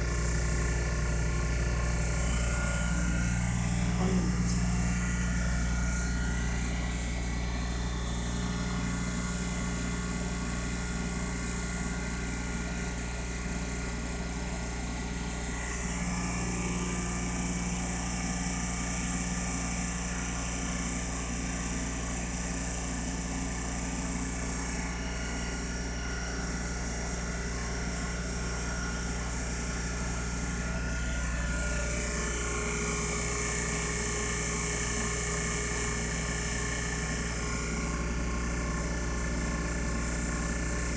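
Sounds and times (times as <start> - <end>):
vacuum pump humming: 0.0 - 40.9.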